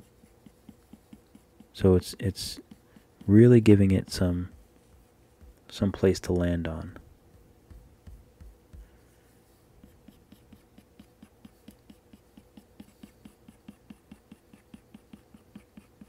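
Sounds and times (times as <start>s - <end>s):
stylus scratching on screen: 0.0s - 6.0s, 7.3s - 16.0s.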